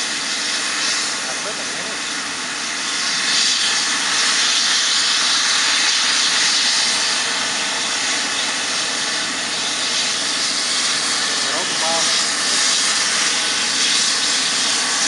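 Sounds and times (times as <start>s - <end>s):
helicopter turbine engines whining: 0.0s - 15.0s.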